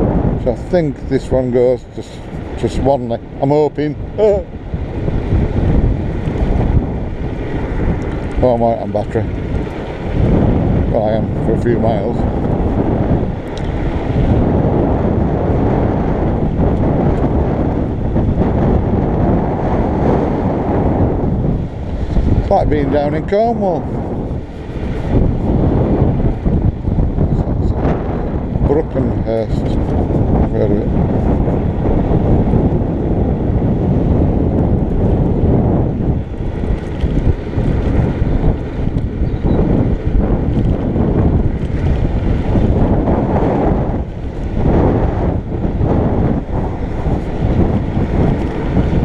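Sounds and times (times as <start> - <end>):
road noise: 0.0 - 49.0
wind buffeting microphone: 0.0 - 49.0.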